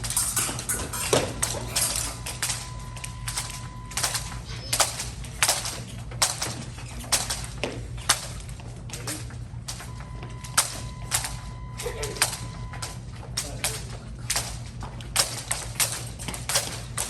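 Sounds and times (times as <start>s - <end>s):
fencing blades clicking: 0.0s - 9.9s, 12.2s - 17.0s
footwork on piste: 0.0s - 17.0s.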